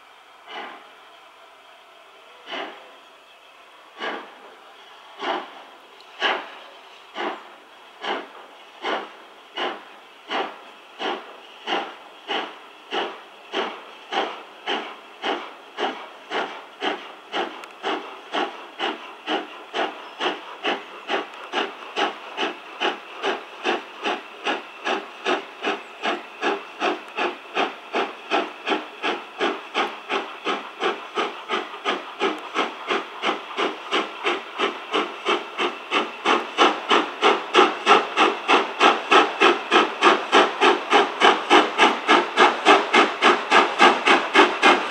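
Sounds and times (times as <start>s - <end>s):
steam locomotive chuffing: 0.0s - 44.9s.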